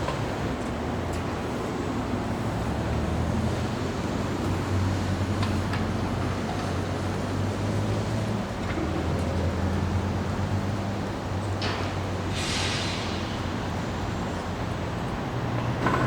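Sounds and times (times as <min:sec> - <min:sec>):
engines and machinery rumbling: 0:00.0 - 0:16.0
traffic noise: 0:00.0 - 0:16.0.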